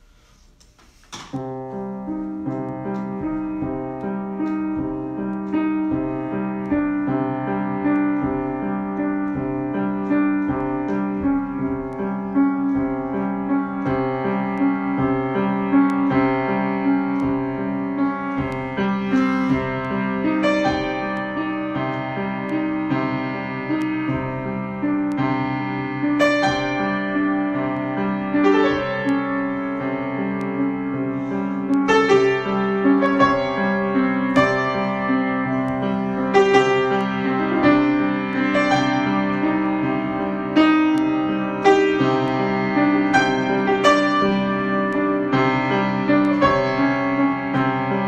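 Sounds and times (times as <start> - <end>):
solo grand piano chords: 1.1 - 48.0.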